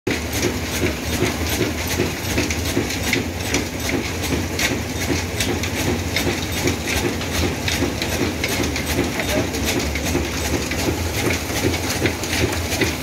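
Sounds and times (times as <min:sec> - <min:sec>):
diesel engine knocking: 0:00.1 - 0:13.0.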